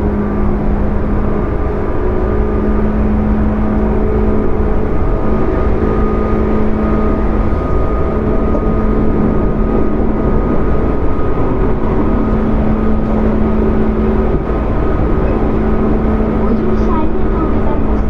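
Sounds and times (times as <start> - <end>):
electric motor hum: 0.0 - 18.0
train wheels rumbling on rail: 0.0 - 18.0.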